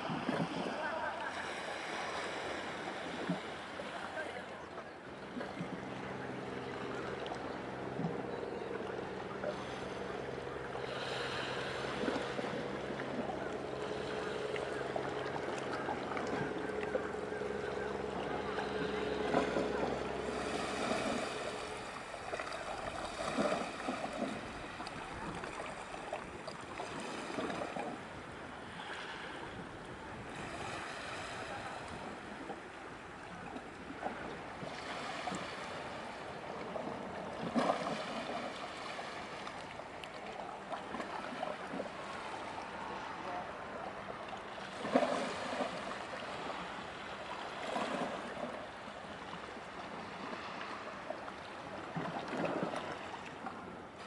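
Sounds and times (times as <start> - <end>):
small waves washing onto shore: 0.0 - 54.0.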